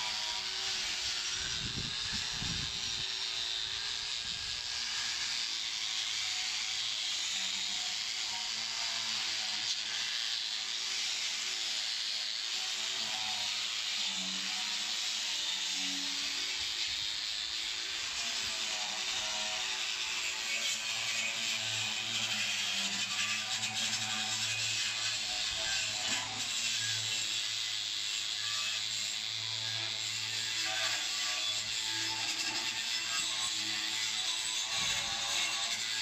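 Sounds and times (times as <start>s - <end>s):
angle grinder grinding metal: 0.0s - 36.0s.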